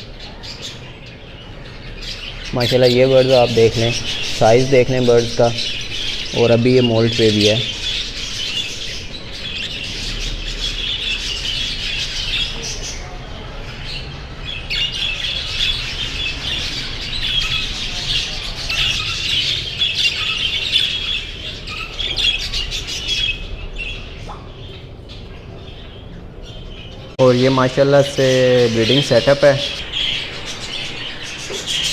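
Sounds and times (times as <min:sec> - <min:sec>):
budgerigars chattering and chirping: 0:00.0 - 0:31.9.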